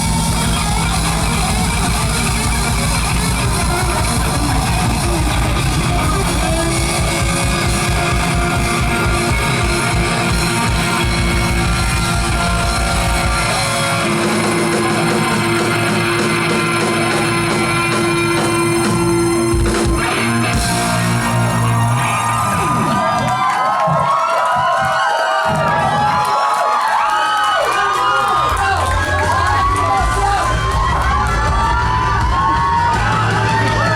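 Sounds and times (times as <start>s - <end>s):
live rock band playing: 0.0s - 23.2s, 28.4s - 33.9s.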